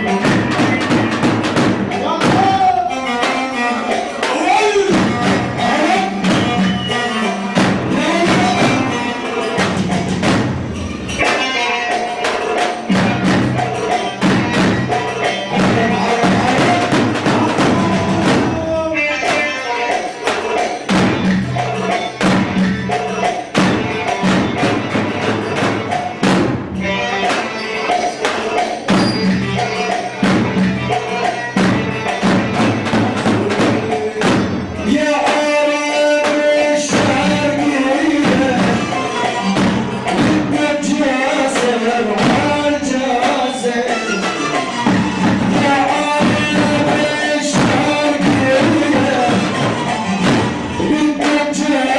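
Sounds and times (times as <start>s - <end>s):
driving drum beat: 0.0s - 51.9s
instrumental dance melody: 0.0s - 51.9s.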